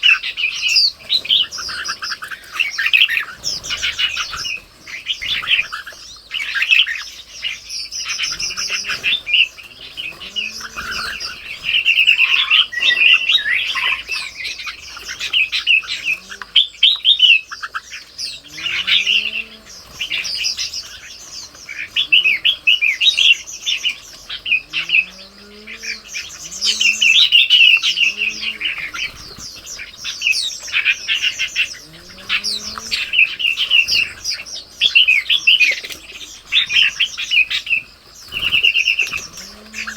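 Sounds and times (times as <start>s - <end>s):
bulbuls chirping: 0.0s - 39.9s
low arching bird calls: 0.0s - 39.9s.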